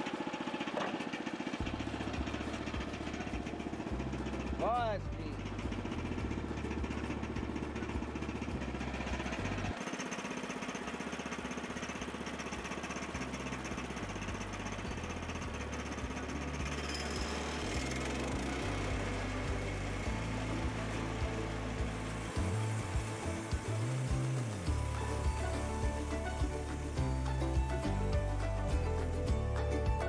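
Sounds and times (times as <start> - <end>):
bandsaw mill cutting log: 0.0 - 29.2.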